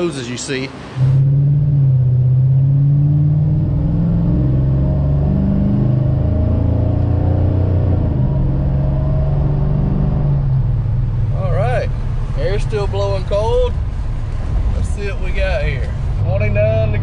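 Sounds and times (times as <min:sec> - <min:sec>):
car engine running: 0:01.0 - 0:17.0.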